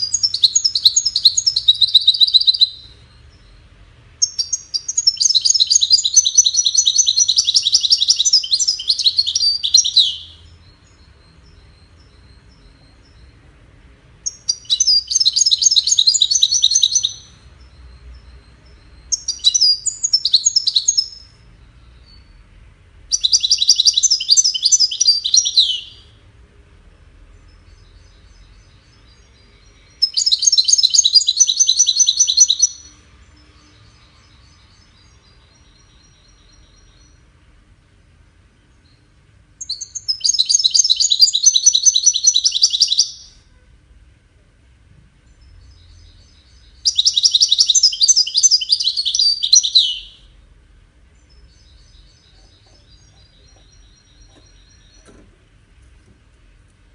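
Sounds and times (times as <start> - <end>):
finch singing: 0.0 - 26.4, 27.0 - 37.7, 38.3 - 43.6, 45.2 - 50.4, 51.0 - 56.9
faint soft bird notes: 0.0 - 56.9.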